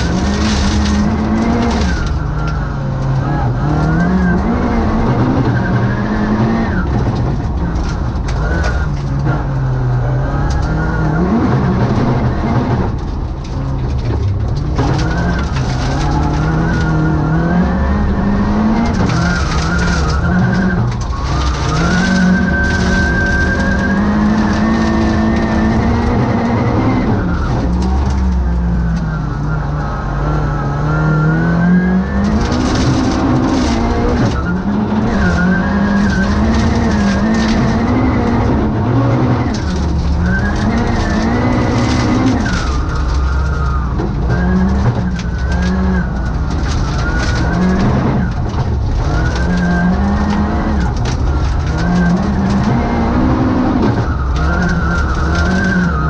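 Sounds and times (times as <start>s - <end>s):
gravel rattling against car underside: 0.0s - 29.9s, 31.6s - 56.0s
car engine revving: 0.0s - 56.0s.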